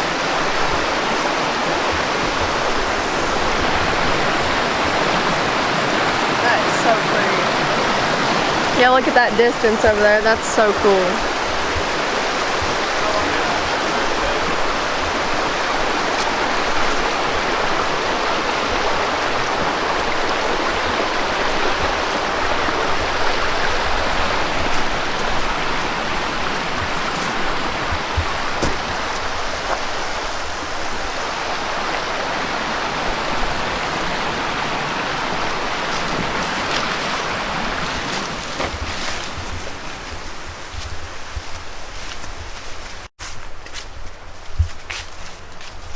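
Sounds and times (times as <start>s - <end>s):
creek rushing over rocks: 0.0s - 43.1s.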